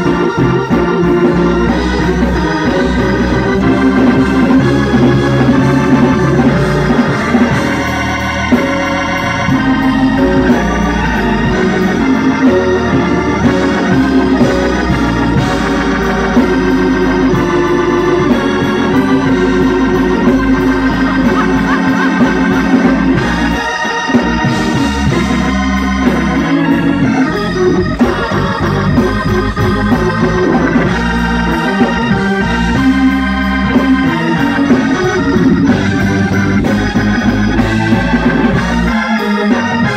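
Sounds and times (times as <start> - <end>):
low bass line: 0.0 - 39.0
electronic organ playing chords: 0.0 - 39.9.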